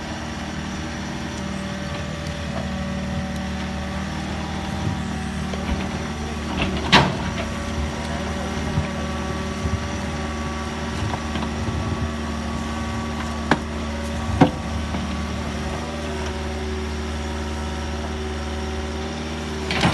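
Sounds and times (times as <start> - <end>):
heavy machine engine running: 0.0 - 19.9.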